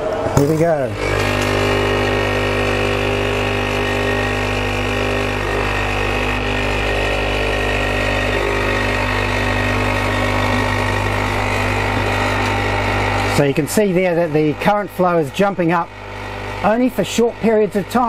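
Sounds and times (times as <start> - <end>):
coffee machine pump buzzing: 0.0 - 18.0.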